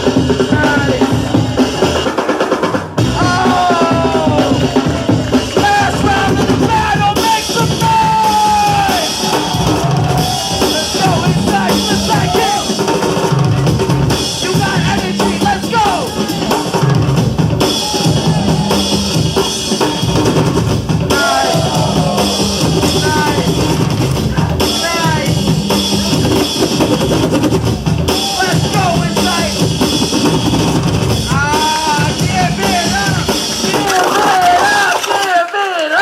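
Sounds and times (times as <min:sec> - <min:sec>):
kick and snare drum beat: 0:00.0 - 0:34.4
hip-hop break-beat music: 0:00.0 - 0:34.7.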